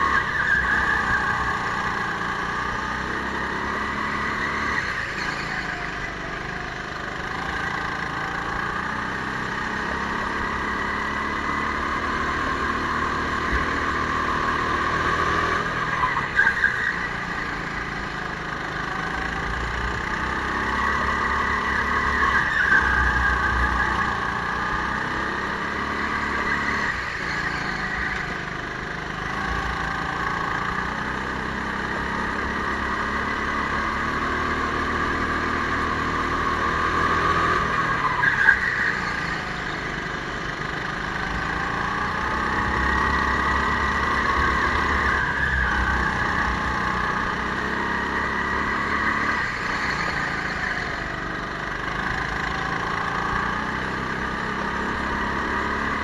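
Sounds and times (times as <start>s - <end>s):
go-kart motor racing: 0.0s - 56.0s.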